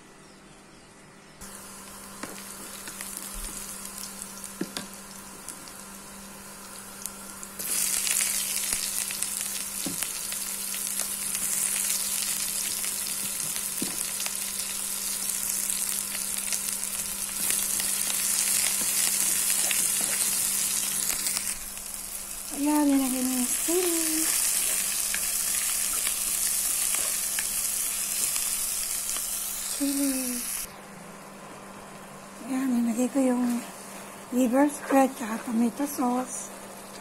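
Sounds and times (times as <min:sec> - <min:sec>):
onion and garlic sizzling in oil: 0:01.4 - 0:30.7, 0:32.4 - 0:37.0.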